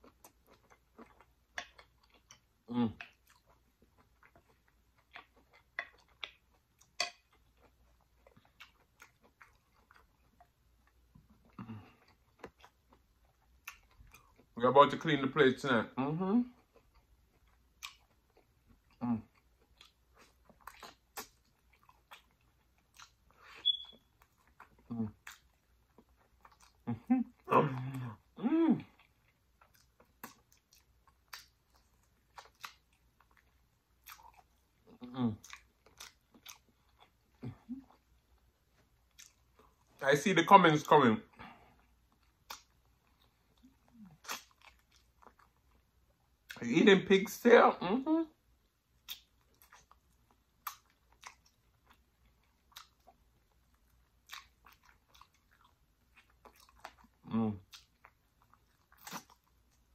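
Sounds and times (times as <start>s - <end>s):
chewing mouth sounds: 0.0s - 14.6s, 16.4s - 40.0s, 41.6s - 46.6s, 49.0s - 59.9s.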